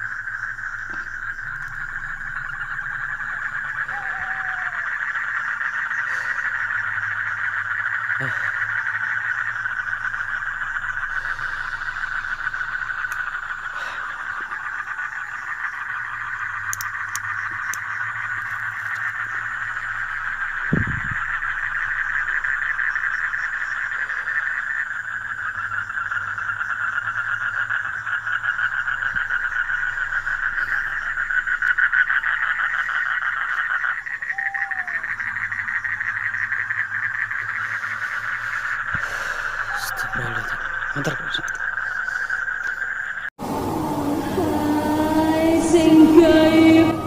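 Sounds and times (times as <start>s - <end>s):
frogs calling: 0.0s - 47.0s.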